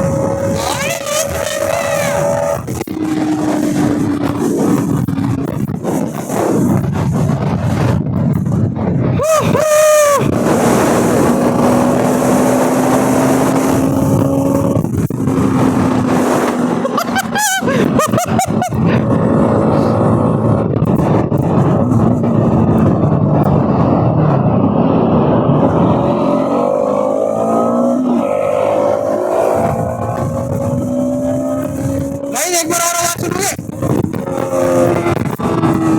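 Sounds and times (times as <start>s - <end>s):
motorcycle engine running: 0.0s - 9.1s, 9.9s - 35.9s
wind rush: 0.0s - 35.9s.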